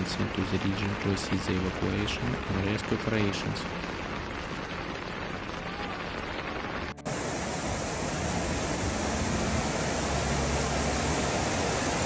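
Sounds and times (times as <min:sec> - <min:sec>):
floodwater rushing: 0:00.0 - 0:12.0
heavy rain: 0:00.0 - 0:12.0.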